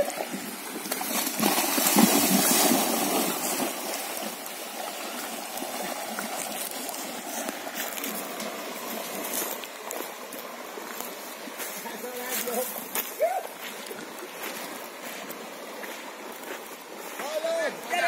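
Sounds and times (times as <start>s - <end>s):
horse splashing through water: 0.0s - 17.9s.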